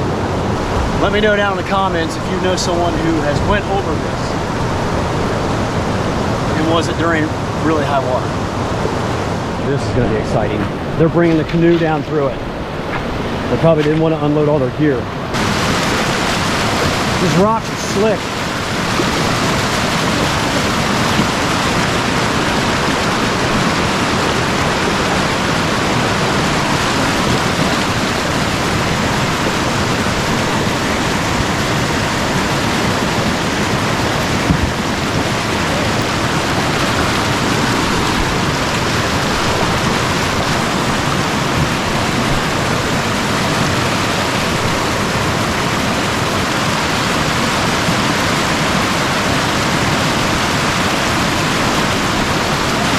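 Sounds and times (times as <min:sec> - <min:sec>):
river water rushing over rapids: 0:00.0 - 0:52.9.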